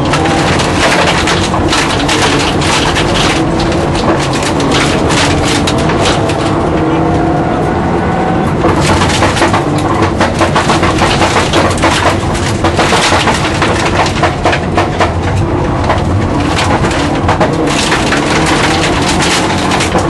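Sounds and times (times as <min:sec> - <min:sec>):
gravel striking car underbody: 0:00.0 - 0:07.2, 0:08.5 - 0:20.0
rally car engine running hard: 0:00.0 - 0:20.0.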